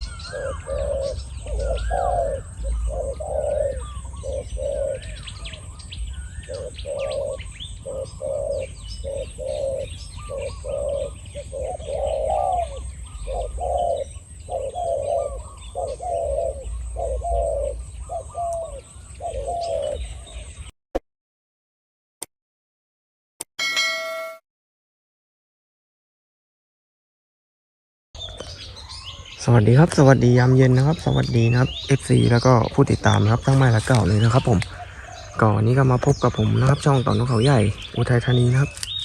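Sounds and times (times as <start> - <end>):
doves cooing: 0.0 - 20.6, 28.2 - 39.0
small birds chirping: 0.0 - 20.7, 28.2 - 39.0.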